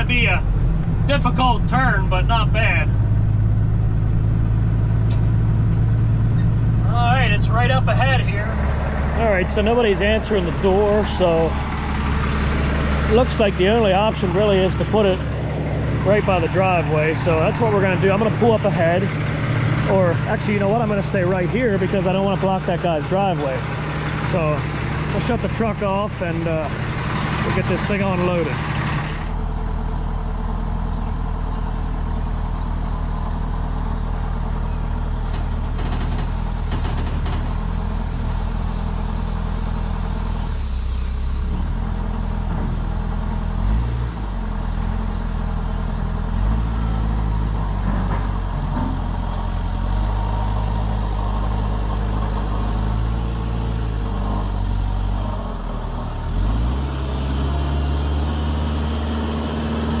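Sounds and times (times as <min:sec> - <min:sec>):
forklift engine revving: 0:00.0 - 1:00.0.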